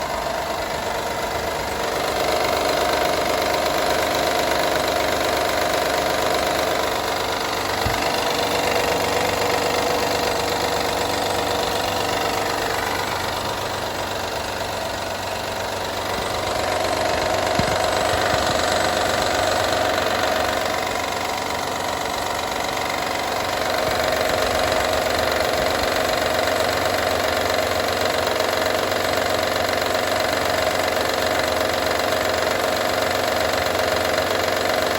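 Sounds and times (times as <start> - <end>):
car engine running with rattle: 0.0 - 34.9.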